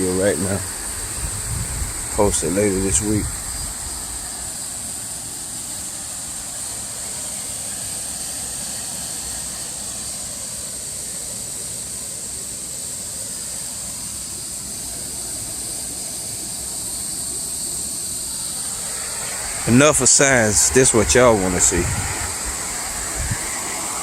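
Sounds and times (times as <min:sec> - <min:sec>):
waterfall rushing hiss: 0:00.0 - 0:24.0.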